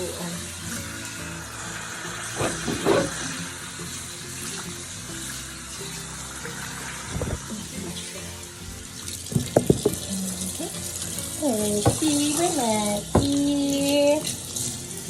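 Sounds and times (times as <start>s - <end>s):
background music with held notes: 0.0s - 15.0s
tap water running: 0.0s - 15.0s.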